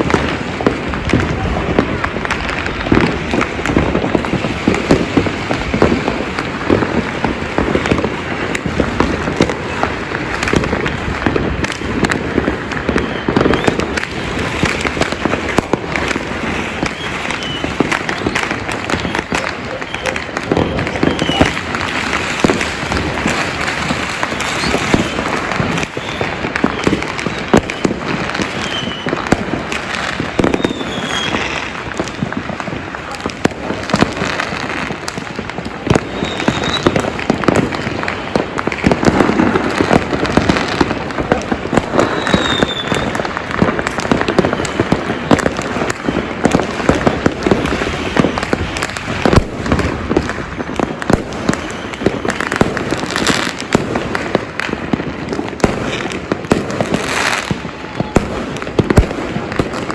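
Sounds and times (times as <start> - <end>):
firework whistles: 0.0 - 54.5
firecrackers banging and popping: 0.0 - 59.9.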